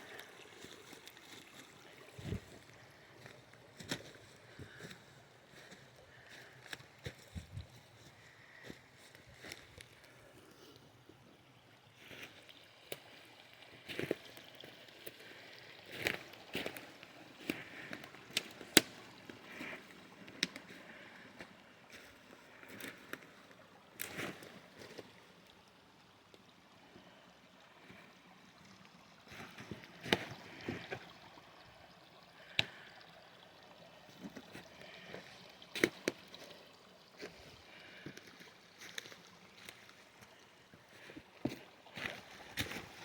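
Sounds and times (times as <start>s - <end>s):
water trickling: 0.0s - 43.0s.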